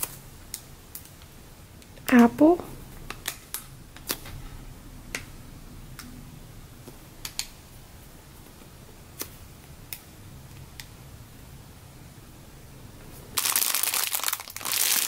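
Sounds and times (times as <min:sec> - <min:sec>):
faint low hum: 0:00.0 - 0:13.4.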